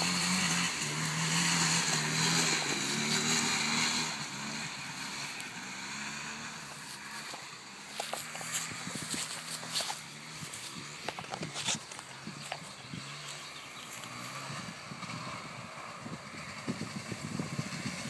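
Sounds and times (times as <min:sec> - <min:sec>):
quad engine running: 0:00.0 - 0:18.0.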